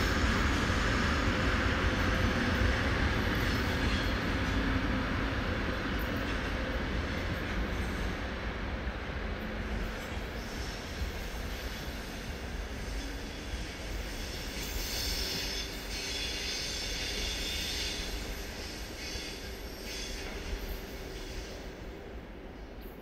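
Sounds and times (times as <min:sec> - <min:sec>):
train coaches rumbling: 0:00.0 - 0:23.0.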